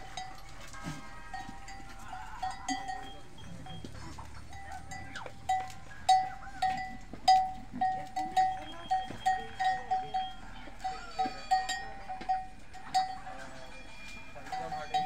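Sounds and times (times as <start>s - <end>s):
small metal bell ringing: 0.0s - 0.6s, 1.3s - 15.0s.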